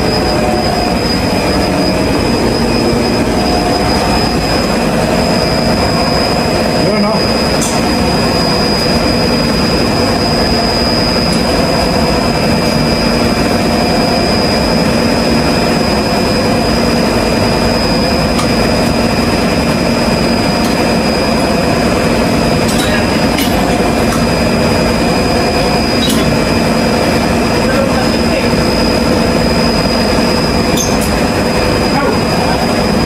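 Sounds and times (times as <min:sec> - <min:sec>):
refrigeration machinery drone: 0:00.0 - 0:33.0.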